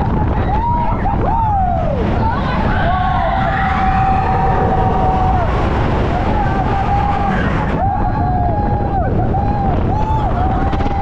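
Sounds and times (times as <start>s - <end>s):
roller coaster rumbling on track: 0.0s - 11.0s
wind buffeting microphone: 0.0s - 11.0s.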